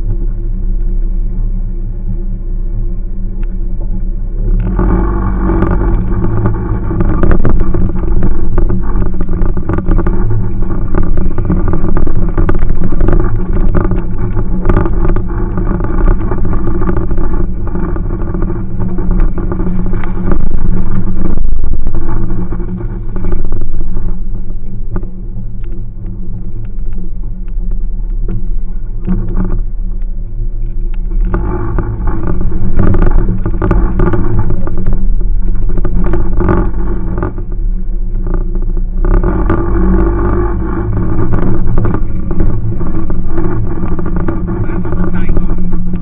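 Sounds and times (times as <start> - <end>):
car engine from inside cab: 0.0 - 46.0.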